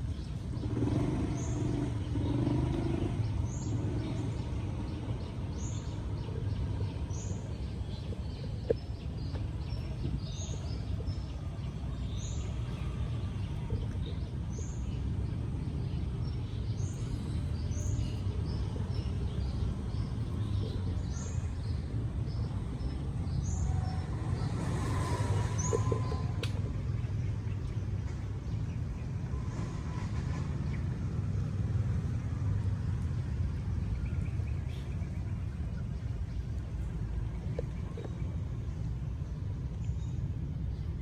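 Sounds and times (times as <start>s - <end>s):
low outdoor rumble: 0.0s - 41.0s.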